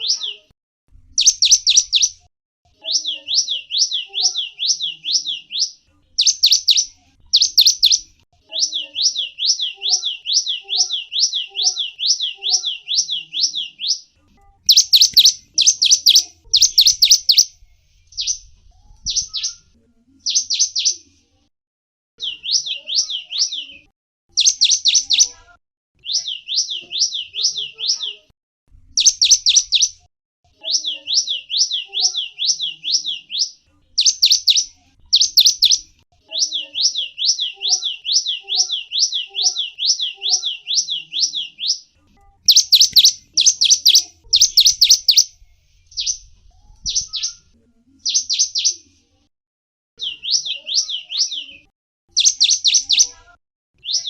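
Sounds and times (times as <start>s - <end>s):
songbird singing: 0.0s - 0.5s, 1.1s - 21.1s, 22.2s - 25.4s, 26.0s - 28.3s, 29.0s - 30.0s, 30.6s - 48.8s, 50.0s - 53.2s.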